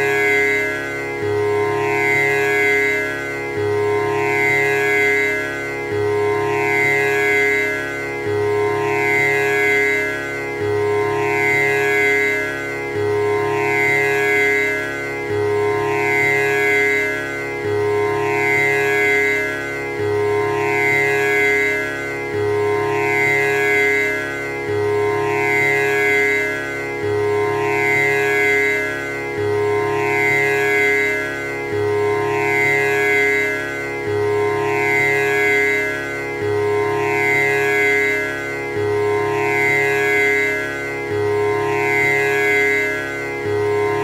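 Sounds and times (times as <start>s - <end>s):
tanpura drone: 0.0s - 44.0s.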